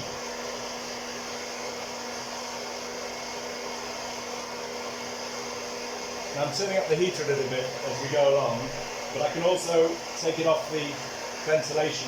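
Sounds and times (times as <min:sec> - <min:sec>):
coffee roaster blower rushing air: 0:00.0 - 0:12.0.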